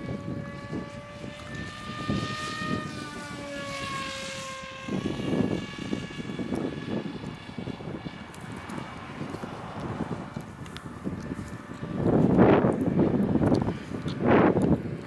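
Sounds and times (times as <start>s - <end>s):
model plane motor whining: 0.0s - 15.0s
wind buffeting microphone: 0.0s - 15.0s.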